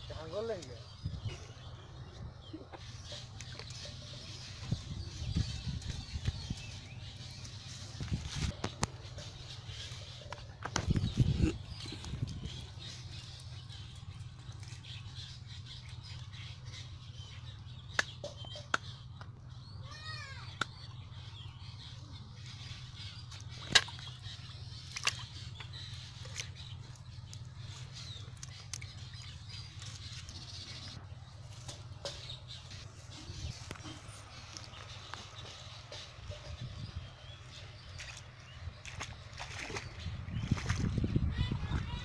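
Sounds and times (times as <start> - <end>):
bird chirps: 0.0 - 42.0
steady low hum: 0.0 - 42.0.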